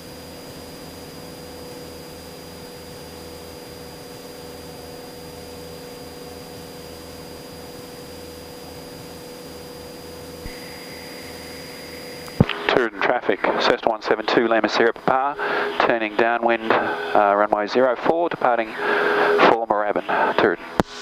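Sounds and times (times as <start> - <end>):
small plane engine drone in cockpit: 0.0 - 21.0.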